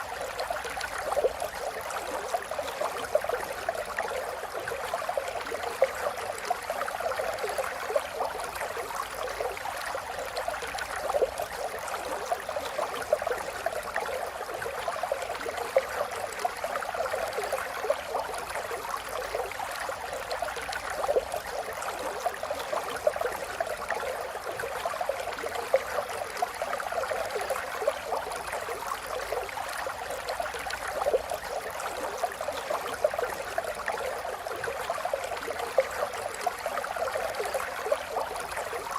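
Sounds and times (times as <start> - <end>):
river babbling over stones: 0.0 - 38.9.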